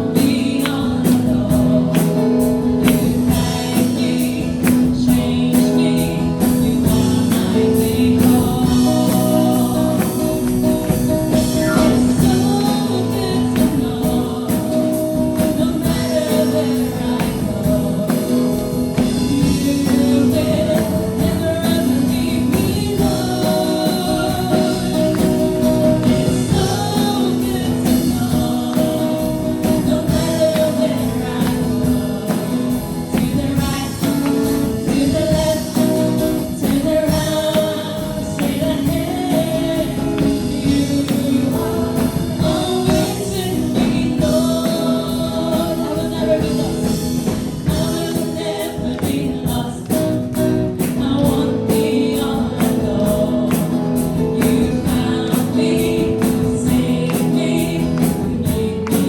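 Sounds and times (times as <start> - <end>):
group singing worship song: 0.0 - 59.0.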